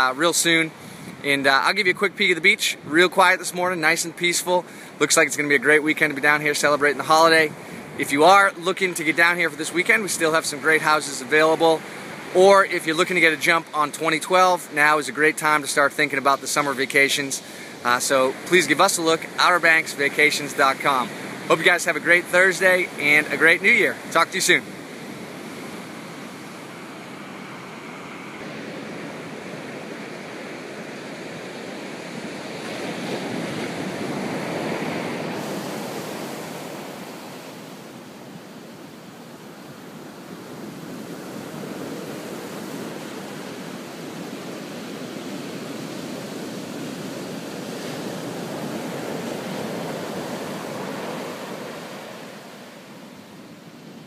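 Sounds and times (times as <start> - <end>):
waves breaking on sand: 0.0 - 54.0.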